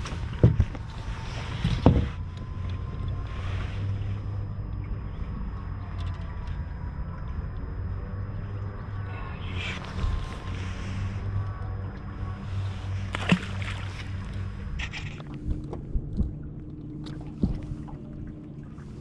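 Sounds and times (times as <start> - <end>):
water lapping against hull: 0.0 - 19.0
wind: 0.0 - 19.0.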